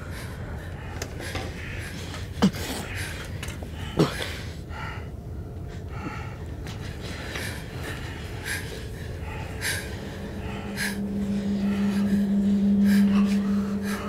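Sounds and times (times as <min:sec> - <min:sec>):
low steady hum: 0:00.0 - 0:14.0
person breathing heavily: 0:00.0 - 0:14.0.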